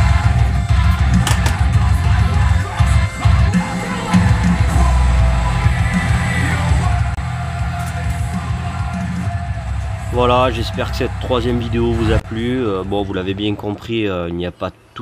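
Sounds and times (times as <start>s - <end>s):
music with heavy pulsing bass: 0.0s - 13.2s.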